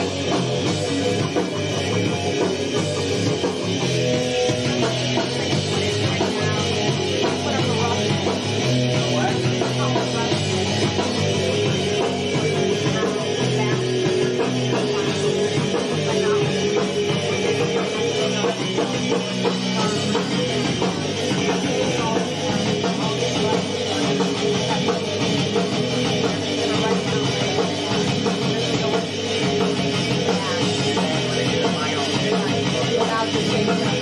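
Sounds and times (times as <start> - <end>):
bass guitar: 0.0 - 34.0
drums: 0.0 - 34.0
electric guitar: 0.0 - 34.0.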